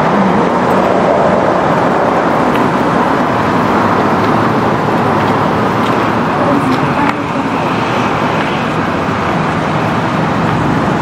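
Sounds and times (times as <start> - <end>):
car tyres and engine rushing: 0.0 - 11.0.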